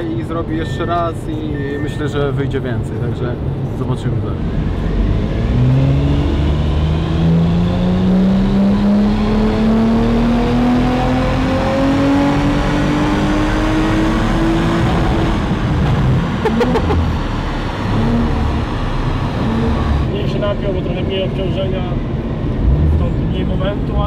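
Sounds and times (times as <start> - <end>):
car engine at full throttle: 2.8 - 24.0.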